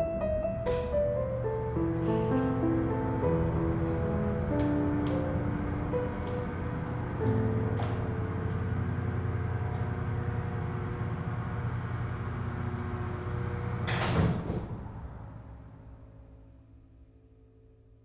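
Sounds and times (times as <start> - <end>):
low steady drone: 0.0 - 17.2
heavy sliding door slamming shut: 0.2 - 15.6.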